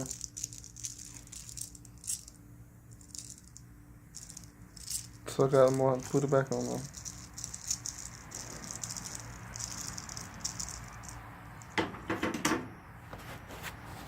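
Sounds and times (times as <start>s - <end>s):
metal parts rattling and clicking: 0.0s - 2.4s, 3.0s - 11.9s.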